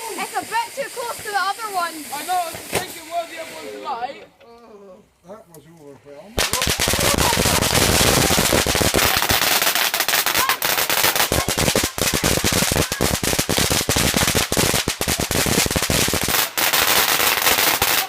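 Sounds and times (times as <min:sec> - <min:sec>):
fireworks bangs and crackles: 0:00.0 - 0:03.6, 0:06.4 - 0:18.0.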